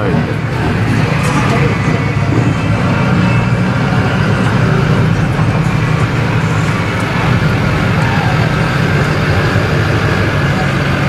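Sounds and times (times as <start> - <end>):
traffic rumble from inside car: 0.0 - 11.0.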